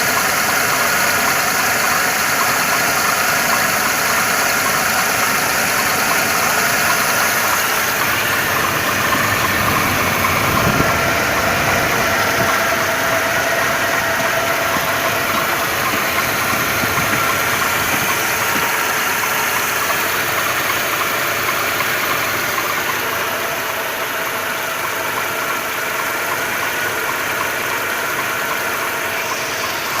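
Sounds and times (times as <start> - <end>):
petrol engine idling with knock: 0.0 - 30.0.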